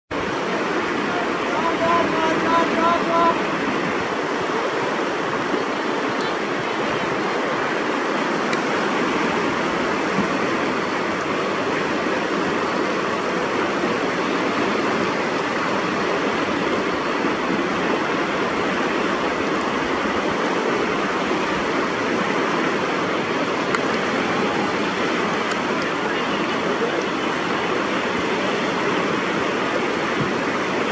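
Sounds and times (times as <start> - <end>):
whitewater rapid roaring: 0.1 - 30.9.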